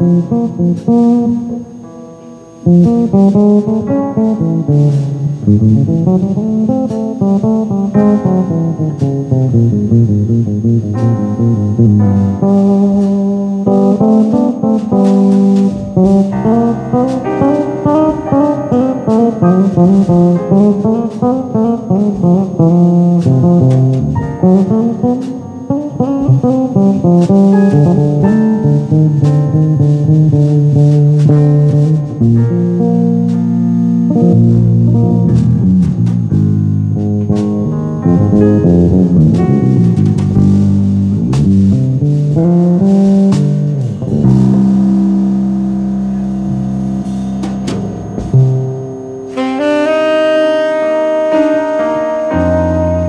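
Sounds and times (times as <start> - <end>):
plucked guitar music: 0.0 - 53.0
bass line: 2.6 - 53.0.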